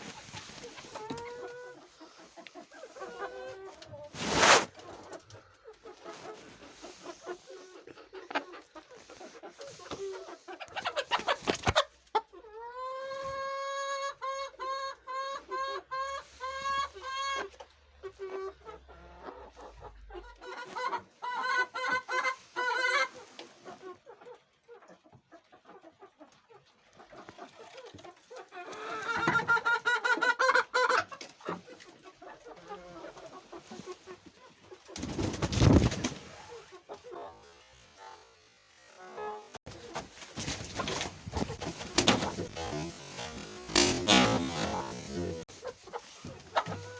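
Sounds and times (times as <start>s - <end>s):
rapid pitched chicken calls: 0.0s - 17.5s, 18.3s - 23.8s, 32.3s - 46.9s
chickens clucking: 0.0s - 46.9s.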